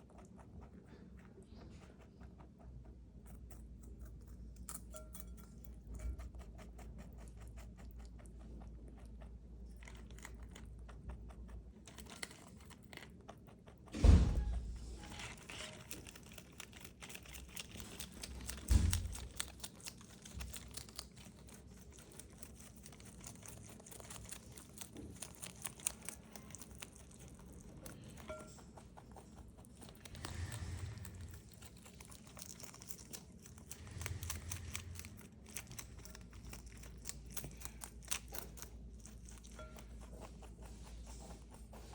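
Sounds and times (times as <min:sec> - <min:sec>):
rabbit chewing crunchy greens: 0:00.0 - 0:41.9.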